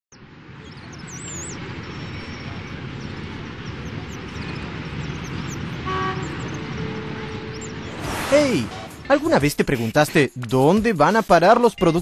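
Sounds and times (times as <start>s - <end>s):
traffic rumble: 0.1s - 10.1s.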